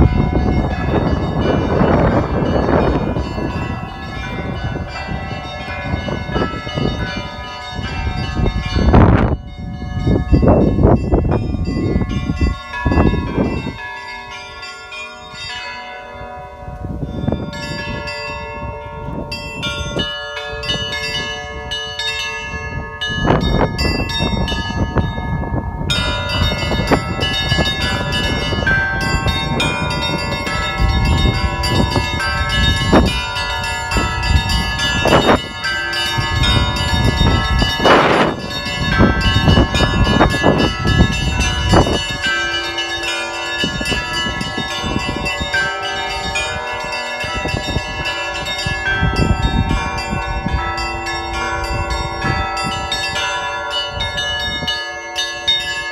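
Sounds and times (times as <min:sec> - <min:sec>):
big bell heavy strikes: 0:00.0 - 0:55.9
larger bells ringing: 0:00.0 - 0:55.9
small high bells chiming quickly: 0:00.0 - 0:55.9.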